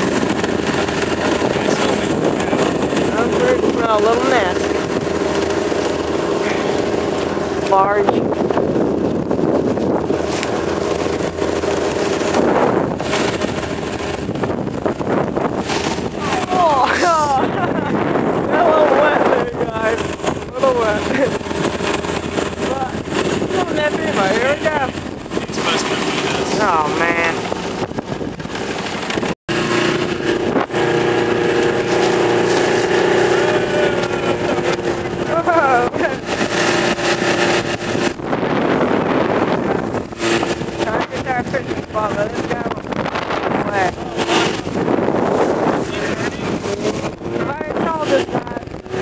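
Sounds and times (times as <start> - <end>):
outboard motor running: 0.0 - 49.0
wind buffeting microphone: 0.0 - 49.0.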